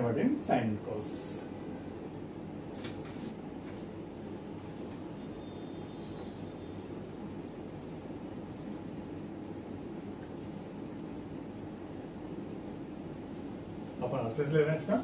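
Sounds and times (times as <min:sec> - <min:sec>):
cloth wiping whiteboard: 0:01.0 - 0:02.0, 0:02.7 - 0:15.0.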